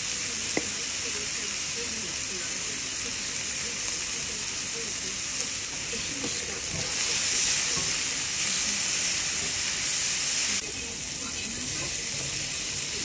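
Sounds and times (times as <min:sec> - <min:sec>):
steady hissing: 0:00.0 - 0:13.0.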